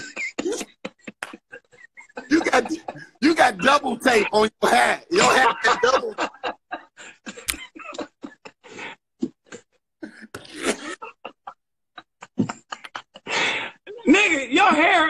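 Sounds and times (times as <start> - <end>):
men laughing: 0.0 - 9.8, 10.8 - 14.6.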